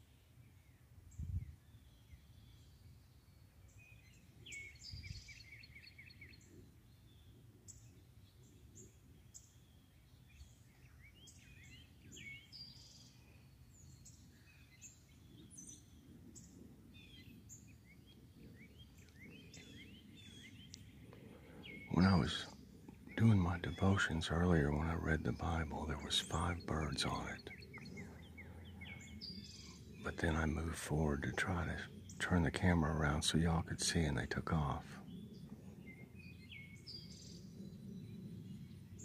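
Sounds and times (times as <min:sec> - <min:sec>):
faint songbirds chirping: 0:00.0 - 0:39.0.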